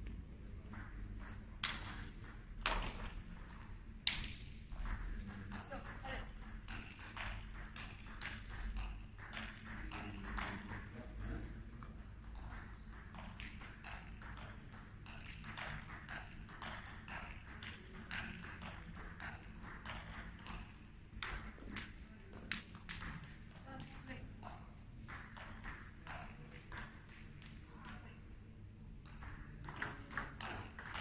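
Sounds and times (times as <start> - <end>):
table tennis balls clicking: 0.0 - 31.0.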